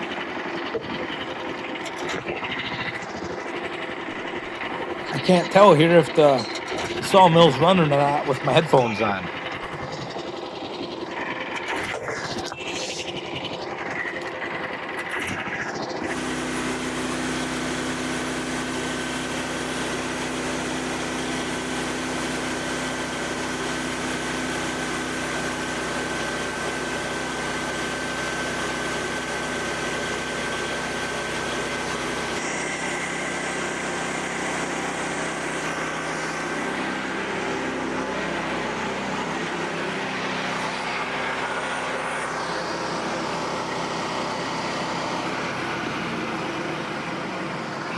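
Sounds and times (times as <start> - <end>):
sawmill engine running: 0.0 - 47.9.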